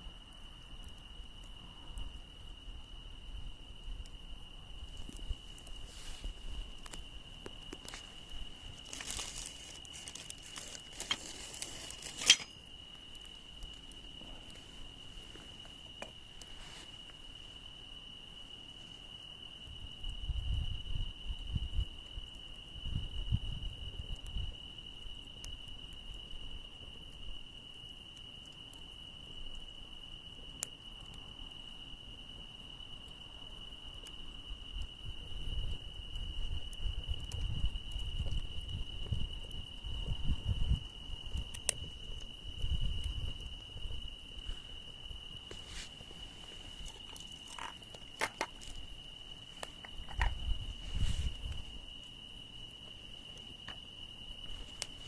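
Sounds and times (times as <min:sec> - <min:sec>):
campfire crackling: 0:00.0 - 0:55.0
crickets trilling: 0:00.0 - 0:55.0.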